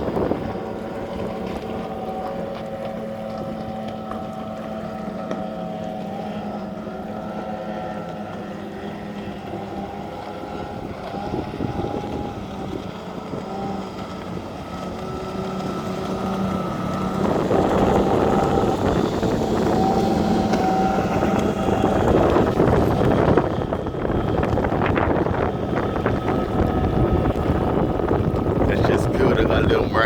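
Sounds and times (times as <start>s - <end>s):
racing motorboat engines: 0.0s - 30.0s.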